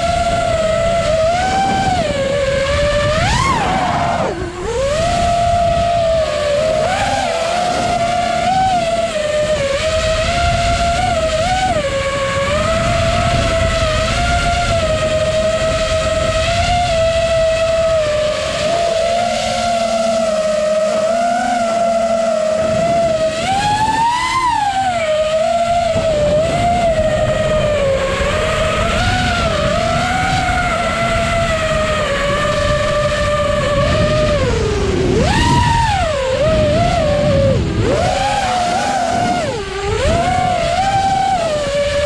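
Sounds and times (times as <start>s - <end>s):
quadcopter motors whining: 0.0s - 42.0s.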